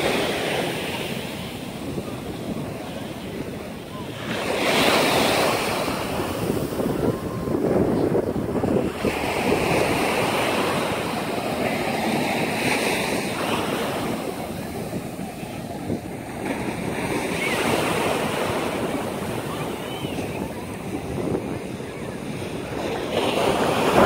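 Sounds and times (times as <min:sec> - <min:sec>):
ocean surf on beach: 0:00.0 - 0:24.0
wind buffeting microphone: 0:00.0 - 0:24.0.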